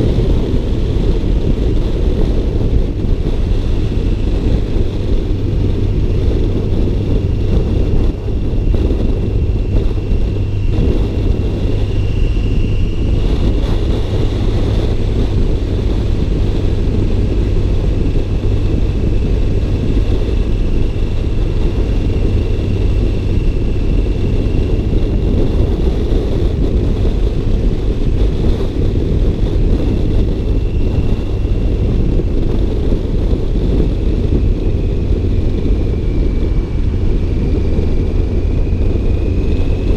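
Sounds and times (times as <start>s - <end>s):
car engine rumbling: 0.0s - 39.9s
faint thin whine: 0.0s - 39.9s.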